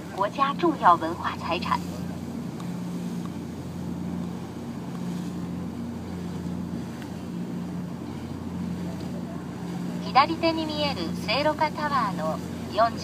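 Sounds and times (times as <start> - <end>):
boat engine drone: 0.0 - 13.0
wind and water rushing: 0.0 - 13.0.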